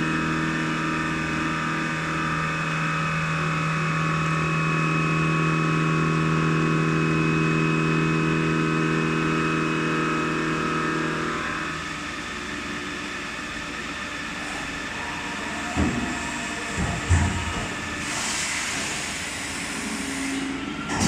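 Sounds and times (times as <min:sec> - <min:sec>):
machining center hum and whine: 0:00.0 - 0:21.0.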